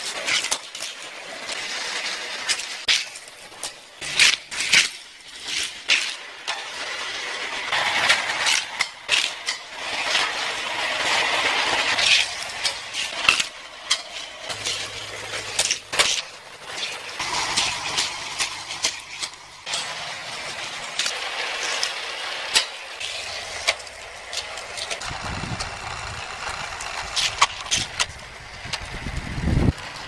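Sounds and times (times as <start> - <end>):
booster units whirring: 0.0 - 30.0
toy cars clattering on plastic track: 0.0 - 30.0.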